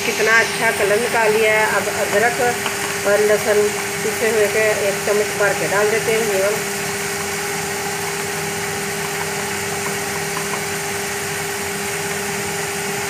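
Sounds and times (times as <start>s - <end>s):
machine hum with steady tone: 0.0s - 13.0s.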